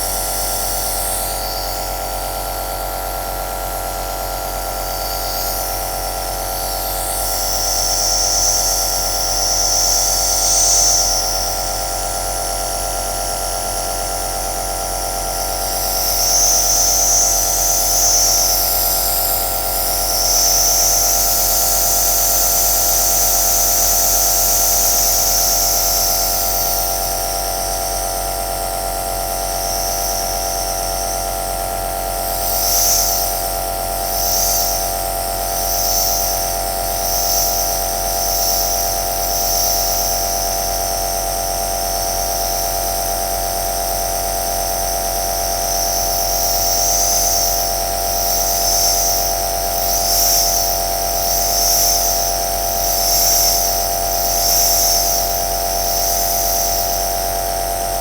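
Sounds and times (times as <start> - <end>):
nebulizer motor hum: 0.0 - 27.9, 29.2 - 40.6, 41.9 - 58.0.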